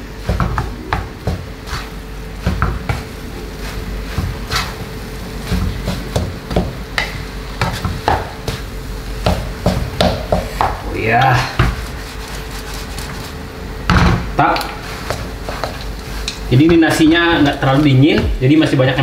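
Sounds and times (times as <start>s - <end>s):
frying sizzle: 0.0s - 19.0s.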